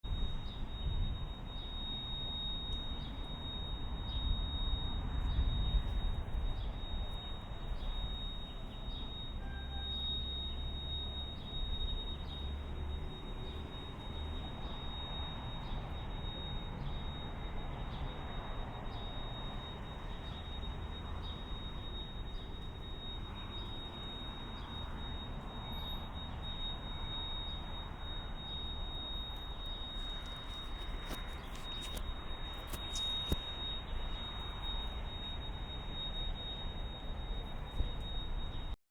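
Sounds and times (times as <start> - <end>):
high-pitched ringing tone: 0.0 - 38.8.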